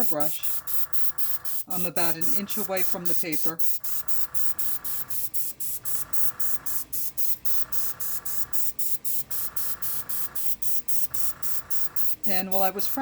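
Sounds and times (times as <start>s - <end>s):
airbrush hissing in spurts: 0.0s - 13.0s.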